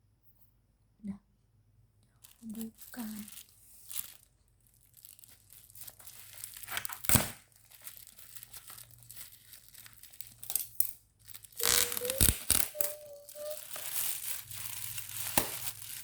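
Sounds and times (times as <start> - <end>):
plastic packaging tearing and crinkling: 2.2 - 16.0.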